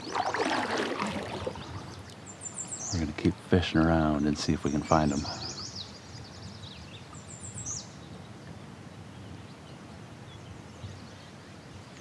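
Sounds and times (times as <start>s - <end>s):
low outdoor background noise: 0.0s - 12.0s
songbird chirping: 0.0s - 12.0s.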